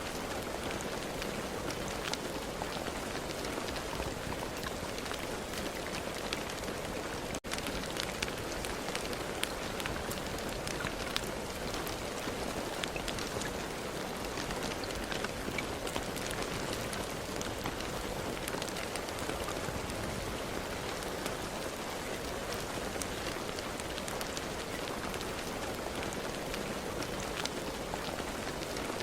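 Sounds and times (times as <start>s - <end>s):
rain drops pattering: 0.0s - 29.0s
rain wash: 0.0s - 29.0s.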